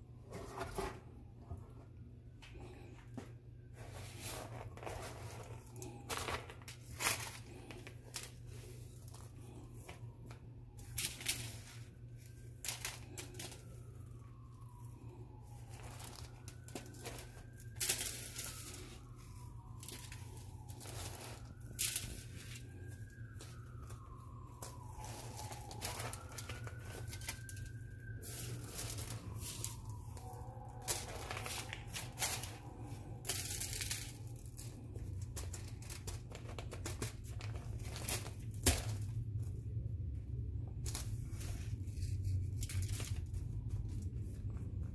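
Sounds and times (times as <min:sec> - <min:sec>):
aluminium foil crinkling: 0:02.6 - 0:39.4, 0:40.8 - 0:44.9.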